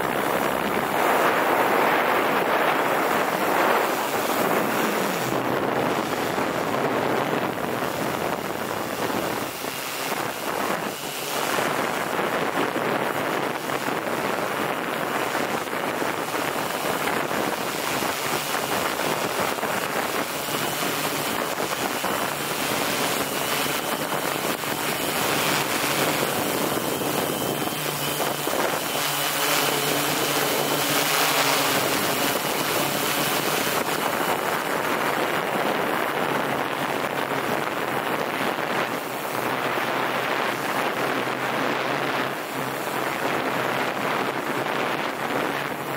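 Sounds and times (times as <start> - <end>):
drone propeller and motor noise: 0.0 - 45.9
faint high whine: 0.0 - 45.9
low motor hum: 0.0 - 45.9
wind rushing over microphone: 0.0 - 45.9.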